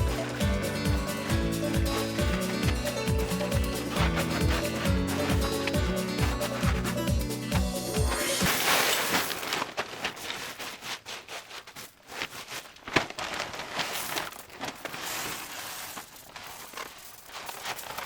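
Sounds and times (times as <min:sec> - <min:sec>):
rustling crinkling handling noise: 0:00.0 - 0:18.0.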